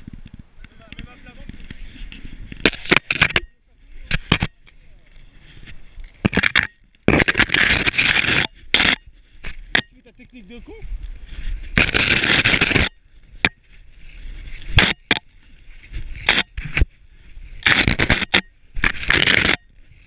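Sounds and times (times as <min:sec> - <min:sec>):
snow crunching and scraping: 0:00.0 - 0:20.0.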